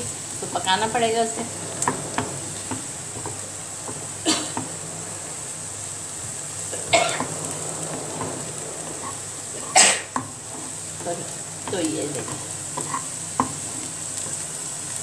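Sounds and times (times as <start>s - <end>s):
onions sizzling in frying pan: 0.0s - 15.0s
wooden spatula stirring: 0.0s - 15.0s.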